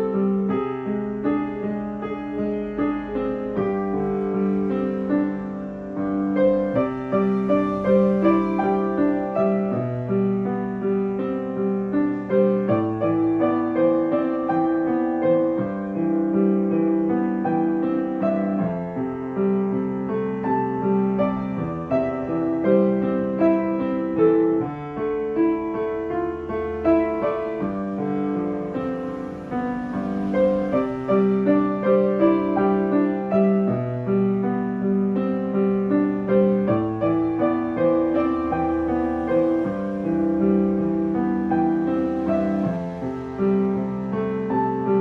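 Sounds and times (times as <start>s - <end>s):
grand piano playing pop ballad: 0.0s - 45.0s.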